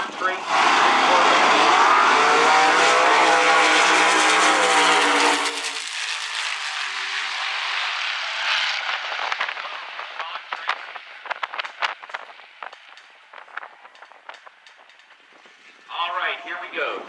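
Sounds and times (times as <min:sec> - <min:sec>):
drag cars accelerating at full throttle: 0:00.0 - 0:15.2.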